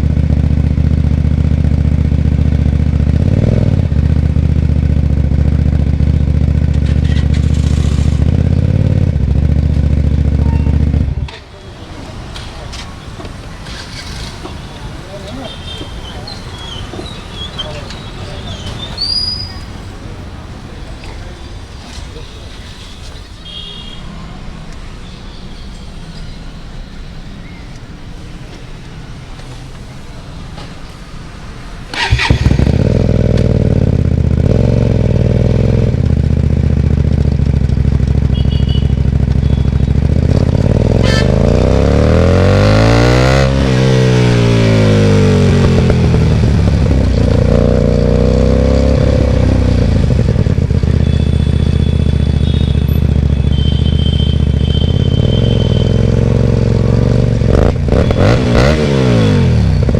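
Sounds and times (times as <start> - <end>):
loud motorcycle engine: 0.0 - 59.9
road noise: 0.0 - 59.9.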